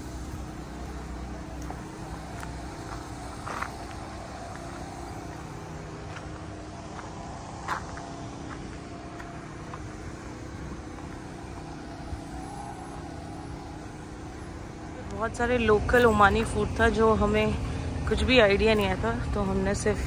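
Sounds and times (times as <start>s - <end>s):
traffic hum: 0.0s - 20.0s.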